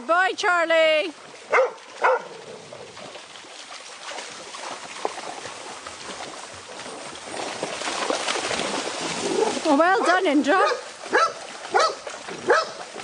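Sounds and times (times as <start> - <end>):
river water rushing: 1.1 - 13.0.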